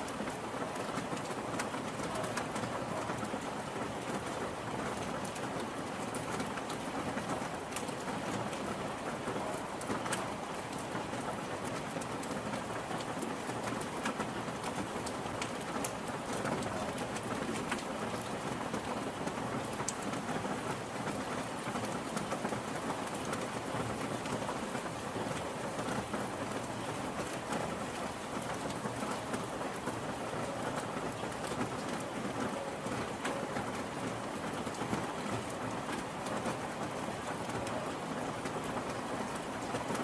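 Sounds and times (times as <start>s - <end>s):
rain patter: 0.0s - 40.0s.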